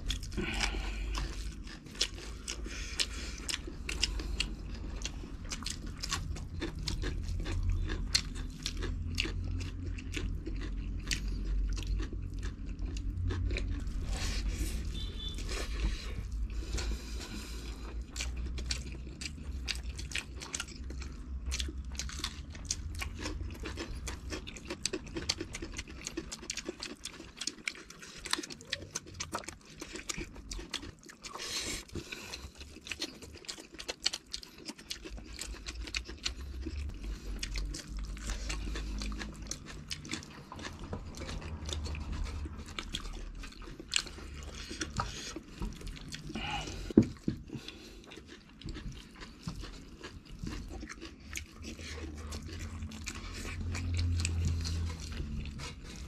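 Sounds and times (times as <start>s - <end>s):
people chewing and crunching: 0.0s - 56.0s.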